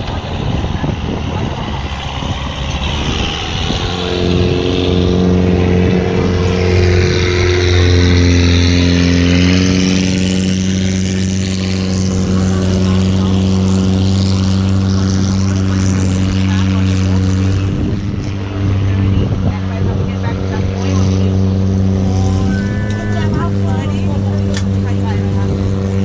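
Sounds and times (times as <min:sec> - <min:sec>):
speedboat engine: 0:00.0 - 0:26.0
wind: 0:00.0 - 0:26.0.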